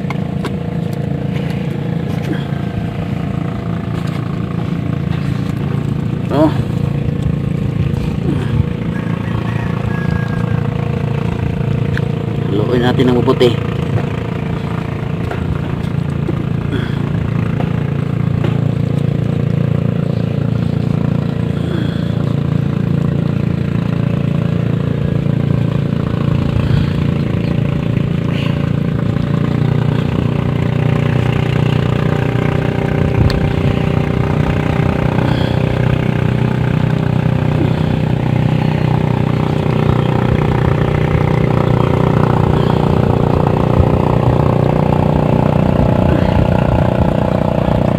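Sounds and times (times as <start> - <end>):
small engine idling: 0.0 - 47.9.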